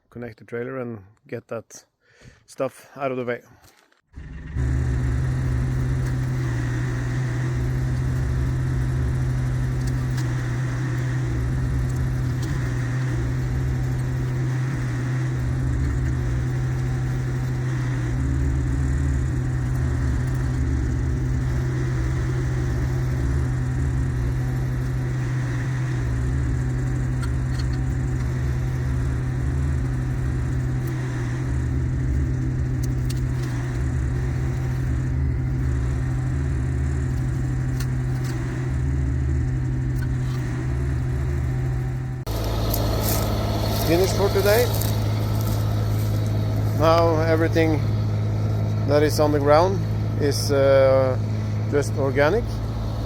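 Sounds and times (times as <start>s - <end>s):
engine running steadily: 4.1s - 53.0s.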